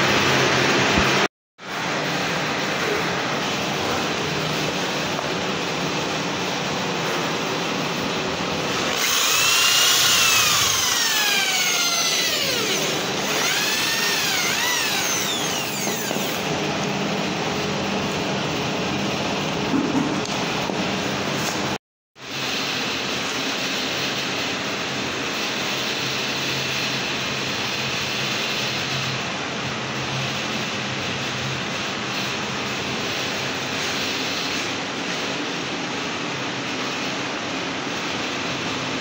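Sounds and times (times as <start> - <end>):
steady background noise: 0.0 - 39.0.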